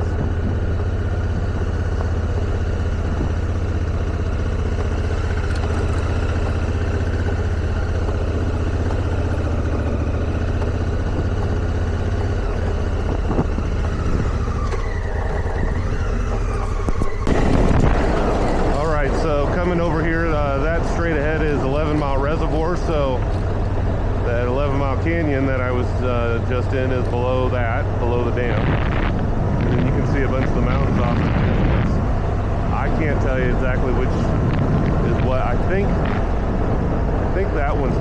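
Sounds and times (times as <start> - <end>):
motorcycle engine running: 0.0 - 38.0
rush of noise: 0.0 - 38.0.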